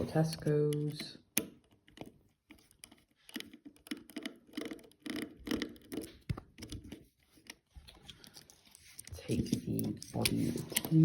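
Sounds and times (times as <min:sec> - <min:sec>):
small plastic objects clicking: 0:00.4 - 0:11.0.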